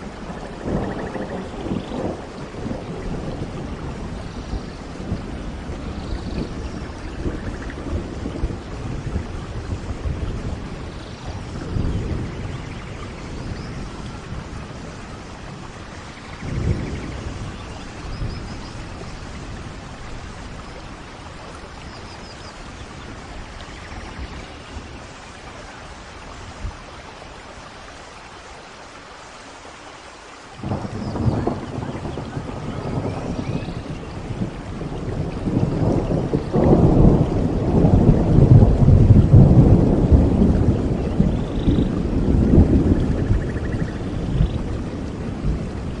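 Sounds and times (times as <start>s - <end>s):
low thunder rumble: 0.0s - 26.9s, 30.6s - 46.0s
steady rain: 0.0s - 46.0s.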